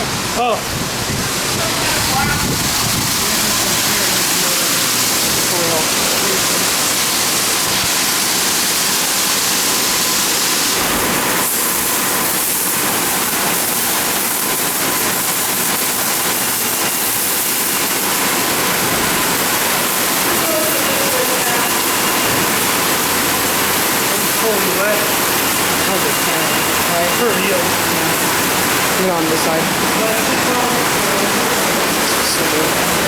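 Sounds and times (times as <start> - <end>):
water spraying over car: 0.0 - 33.0.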